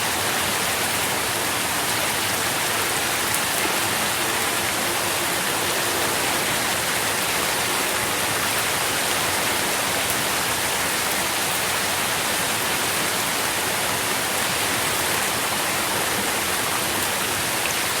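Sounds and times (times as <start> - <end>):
rain drops pattering: 0.0 - 18.0
steady rain: 0.0 - 18.0.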